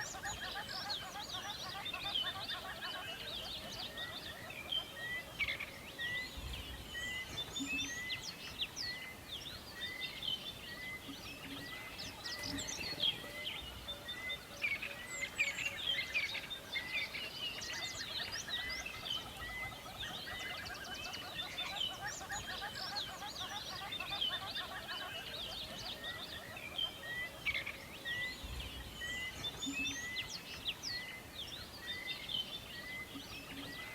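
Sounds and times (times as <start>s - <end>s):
birds chirping in chorus: 0.0s - 33.9s.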